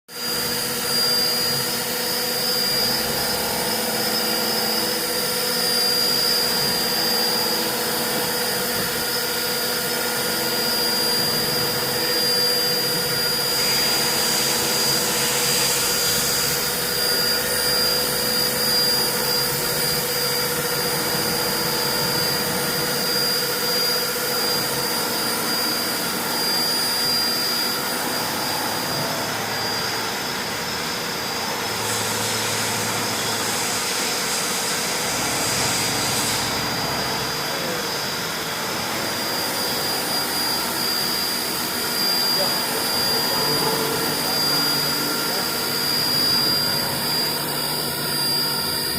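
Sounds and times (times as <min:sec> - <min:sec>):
machining centre running: 0:00.1 - 0:48.9.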